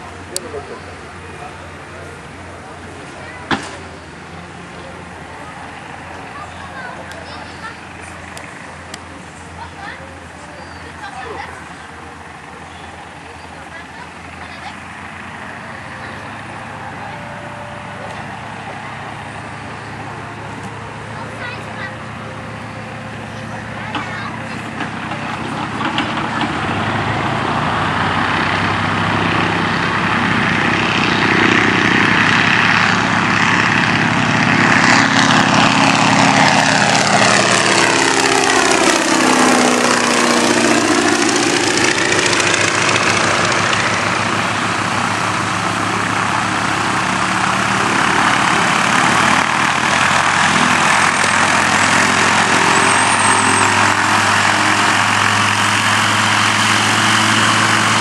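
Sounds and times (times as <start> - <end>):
biplane radial engine: 0.0 - 58.0.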